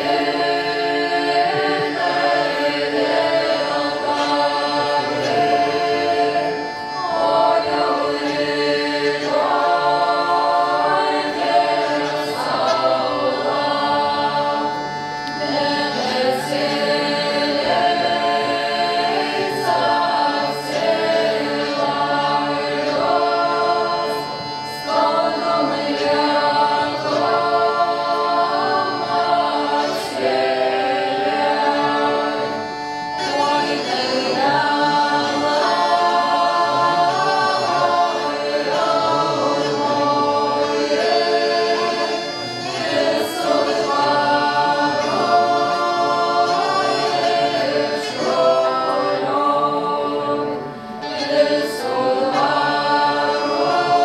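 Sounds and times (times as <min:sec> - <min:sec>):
group singing folk song: 0:00.0 - 0:54.0.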